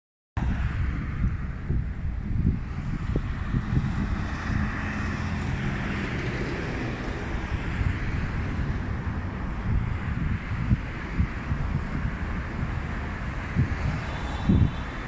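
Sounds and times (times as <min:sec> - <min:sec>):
busy road traffic: 0:00.4 - 0:15.0
wind buffeting microphone: 0:00.4 - 0:15.0.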